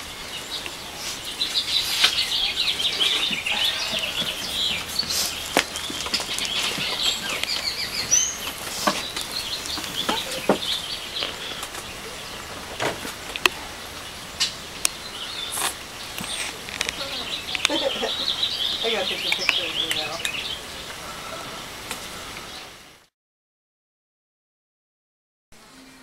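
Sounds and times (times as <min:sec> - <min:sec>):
small birds chirping: 0:00.0 - 0:22.8.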